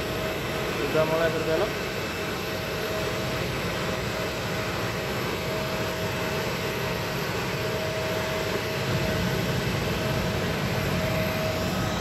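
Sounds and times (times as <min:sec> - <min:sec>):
jet engines idling: 0:00.0 - 0:12.0.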